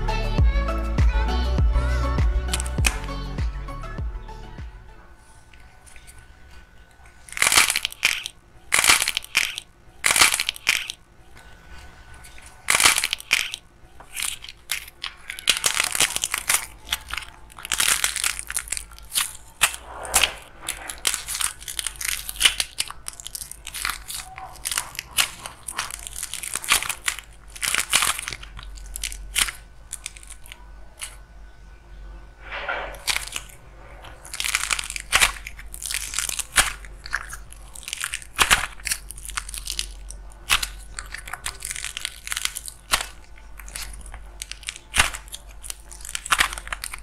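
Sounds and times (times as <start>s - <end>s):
clay shells cracking and crunching: 2.4s - 3.1s, 5.3s - 31.3s, 32.5s - 47.0s.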